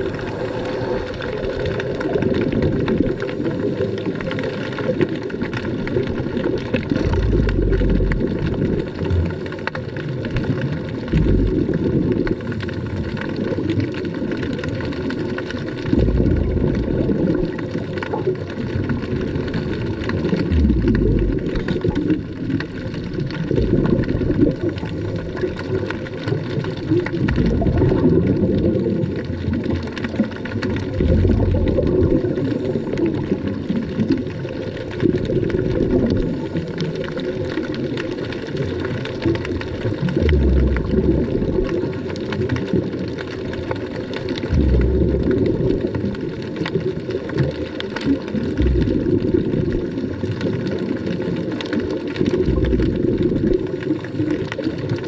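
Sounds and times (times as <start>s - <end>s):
muffled underwater water churning: 0.0s - 55.0s.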